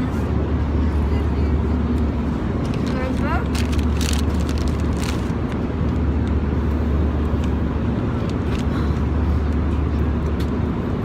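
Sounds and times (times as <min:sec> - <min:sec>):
vehicle cabin drone: 0:00.0 - 0:11.0.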